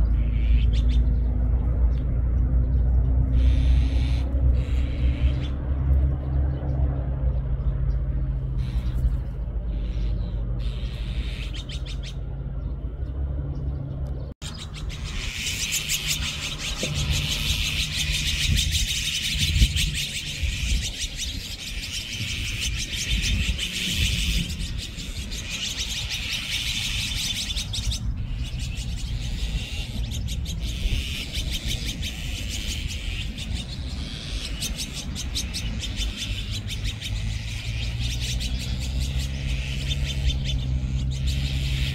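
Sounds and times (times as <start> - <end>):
magpies calling: 0.0 - 41.9.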